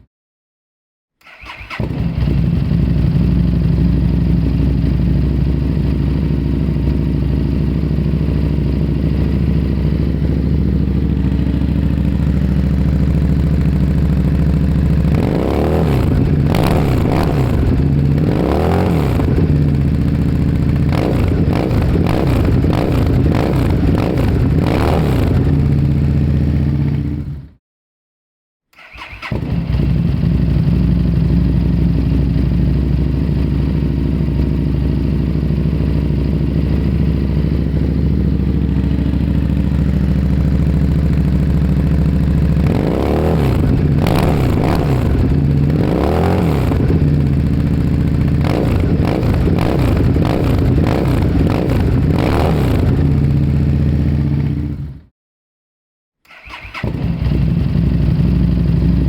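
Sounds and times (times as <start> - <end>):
motorcycle engine revving: 1.3 - 27.5, 28.8 - 55.0, 56.3 - 59.0
motorcycle engine idling: 1.7 - 27.4, 29.4 - 55.0, 56.9 - 59.0.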